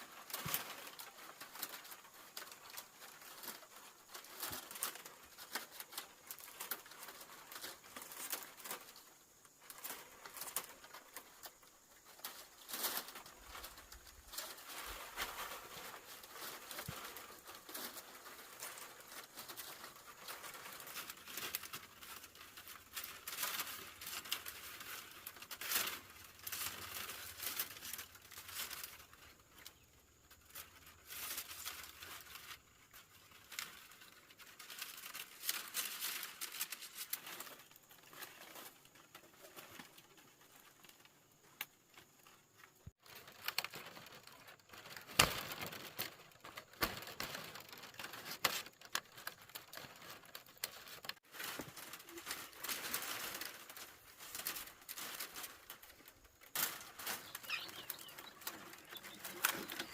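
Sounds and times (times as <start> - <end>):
material rustling and crackling: 0.0 - 59.9.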